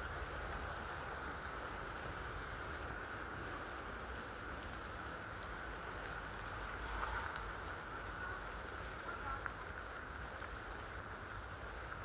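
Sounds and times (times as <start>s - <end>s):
even hiss: 0.0s - 12.0s
faint ticks: 0.0s - 12.0s.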